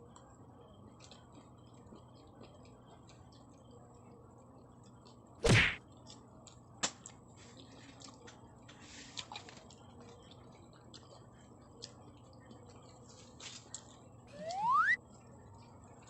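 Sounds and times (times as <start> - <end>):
chewing clicks and smacks: 0.0 - 14.1.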